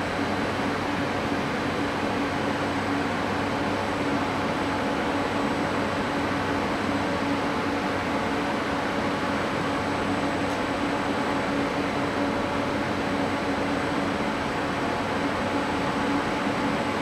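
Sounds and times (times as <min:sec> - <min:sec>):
train ventilation hum and whir: 0:00.0 - 0:17.0.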